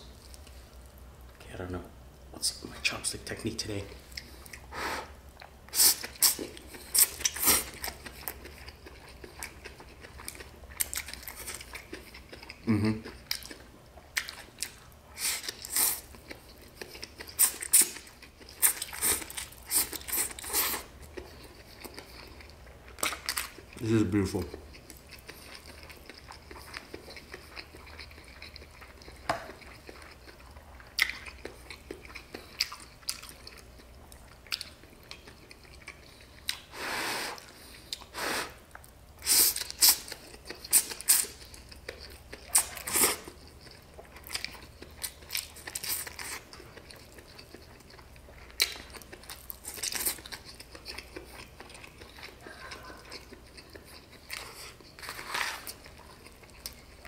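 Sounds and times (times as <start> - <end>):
close chewing: 5.3 - 36.8, 37.4 - 57.0.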